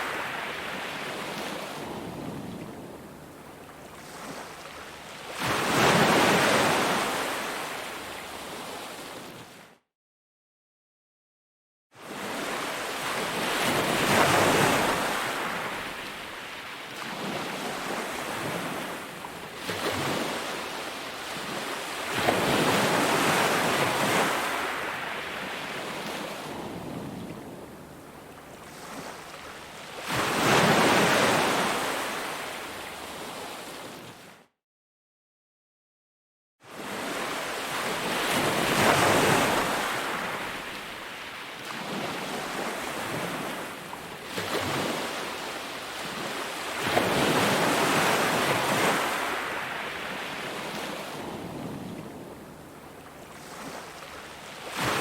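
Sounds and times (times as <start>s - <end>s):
ocean waves breaking on a beach: 0.0s - 9.7s, 12.0s - 34.4s, 36.7s - 55.0s.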